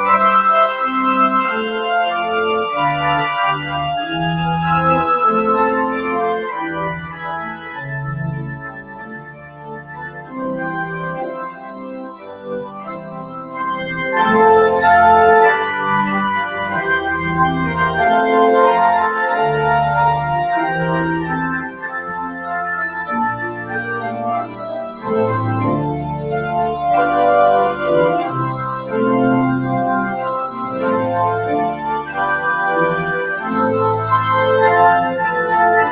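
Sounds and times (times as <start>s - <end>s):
organ playing full chords: 0.0s - 35.9s.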